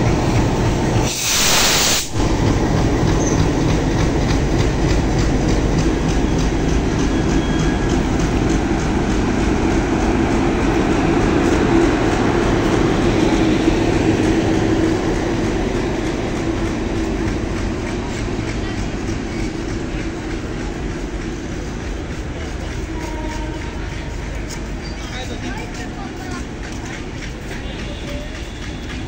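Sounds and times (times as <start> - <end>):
train wheels clicking over rail joints: 0.0 - 29.0.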